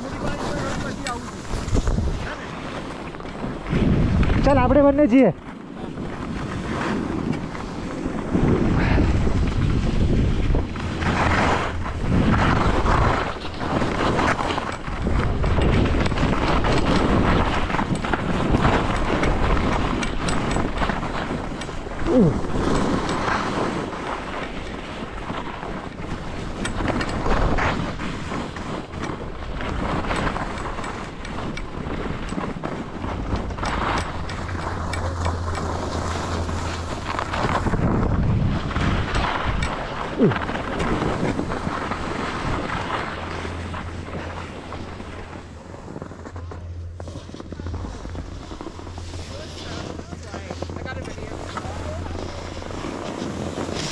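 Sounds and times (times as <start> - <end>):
skis scraping over snow: 0.0 - 53.9
wind rushing over microphone: 0.0 - 53.9.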